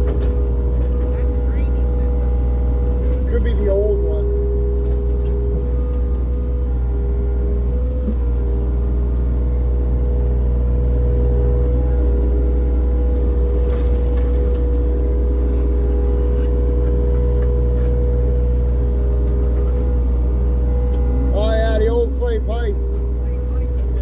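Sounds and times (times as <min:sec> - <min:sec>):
machine engine humming: 0:00.0 - 0:24.0.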